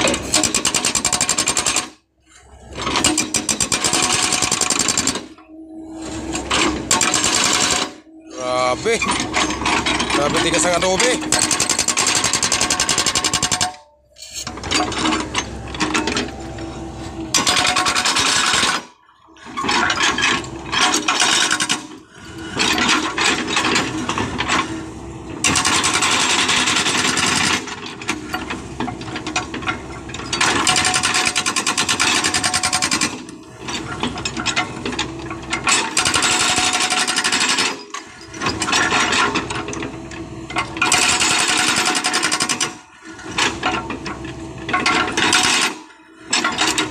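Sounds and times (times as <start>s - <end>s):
hydraulic breaker hammering rock: 0.0s - 1.9s, 2.6s - 5.3s, 6.3s - 13.8s, 17.3s - 24.8s, 25.4s - 46.9s.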